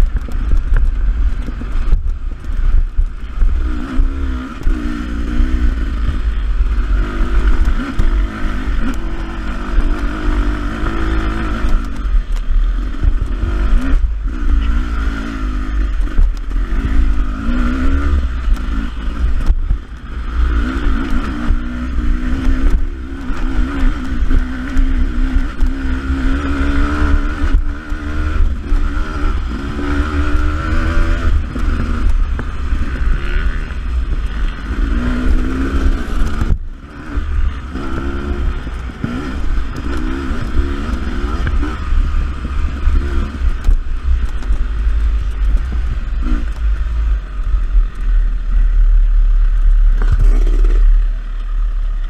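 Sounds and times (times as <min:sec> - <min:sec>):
heavy low rumble: 0:00.0 - 0:52.0
motorcycle engine revving: 0:00.0 - 0:52.0.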